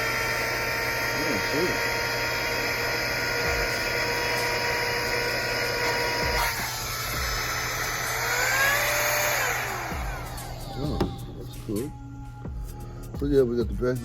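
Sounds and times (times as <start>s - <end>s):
vacuum cleaner motor whine: 0.0s - 11.4s.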